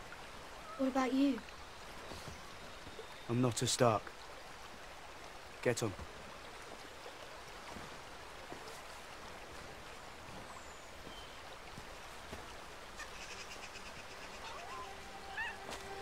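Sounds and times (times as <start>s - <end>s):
faint stream over rocks: 0.0s - 16.0s.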